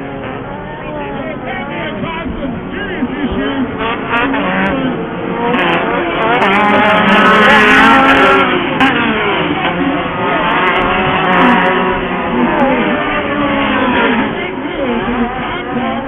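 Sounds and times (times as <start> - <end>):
racing buggy engines revving: 0.0 - 16.0.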